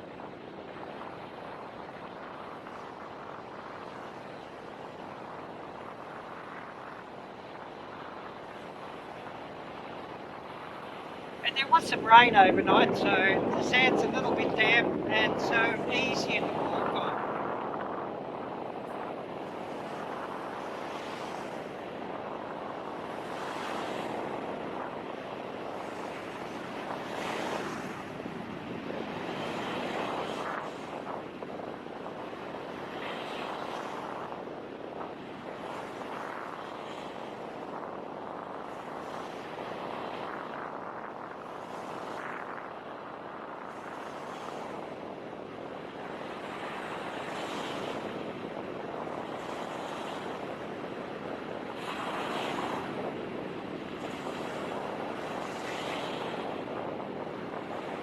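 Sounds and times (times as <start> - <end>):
ocean surf washing ashore: 0.0 - 58.0.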